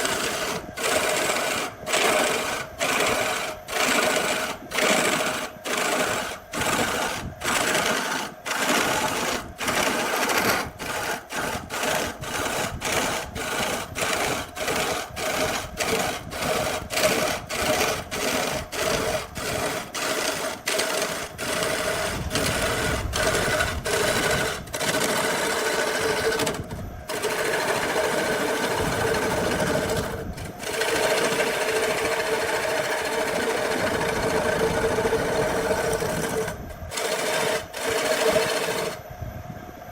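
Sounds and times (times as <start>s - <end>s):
power tool motor whine: 0.0s - 39.9s.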